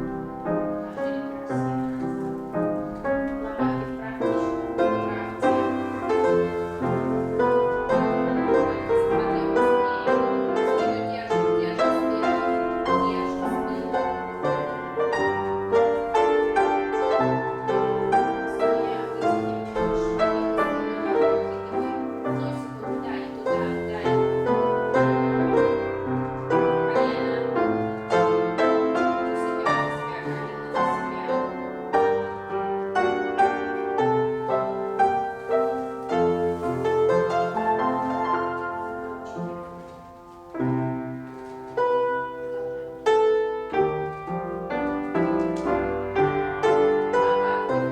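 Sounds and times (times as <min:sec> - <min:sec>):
classical piano music: 0:00.0 - 0:47.9.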